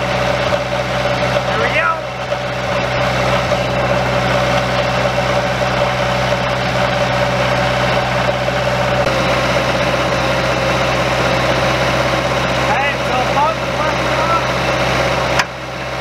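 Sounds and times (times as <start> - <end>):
skid steer engine idling: 0.0 - 16.0.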